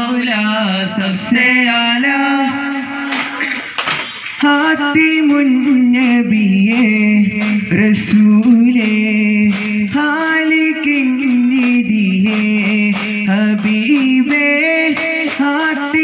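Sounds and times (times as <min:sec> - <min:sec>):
frame drums struck in rhythm: 0:00.0 - 0:16.0
men singing devotional song: 0:00.0 - 0:16.0.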